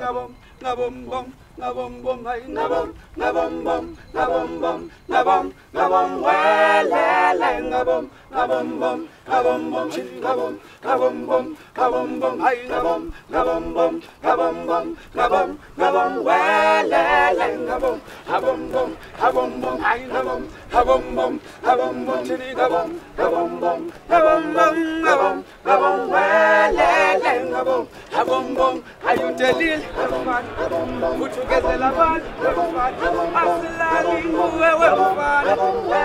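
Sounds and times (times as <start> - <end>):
group singing a cappella: 0.0 - 36.0.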